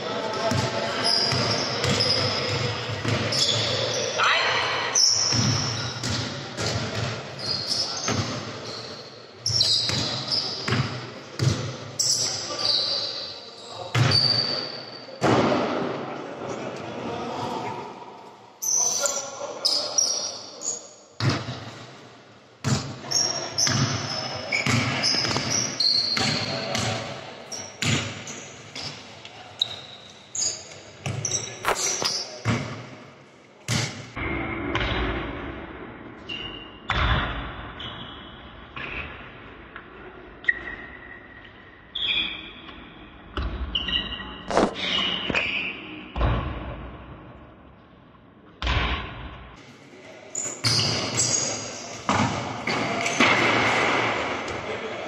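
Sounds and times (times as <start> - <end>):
basketball bouncing in hall: 0.0 - 16.2, 19.7 - 22.0, 22.6 - 41.1, 42.0 - 47.6, 48.5 - 49.6, 50.4 - 55.0.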